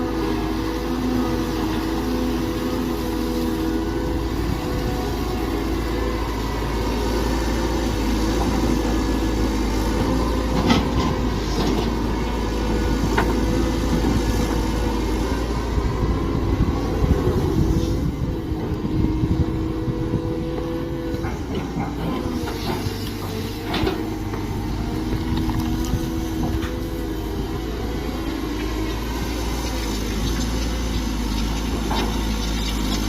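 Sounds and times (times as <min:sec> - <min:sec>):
mini excavator engine running: 0:00.0 - 0:33.0.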